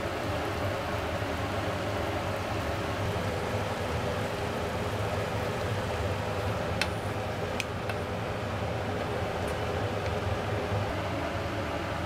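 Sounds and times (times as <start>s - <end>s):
broth bubbling and gas flame hiss: 0.0s - 12.0s.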